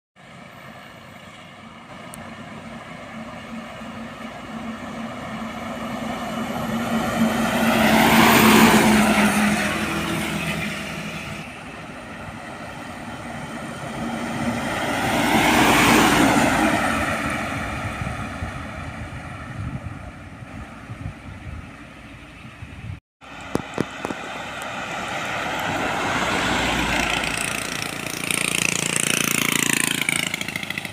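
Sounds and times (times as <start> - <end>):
trucks driving past: 0.2 - 30.9.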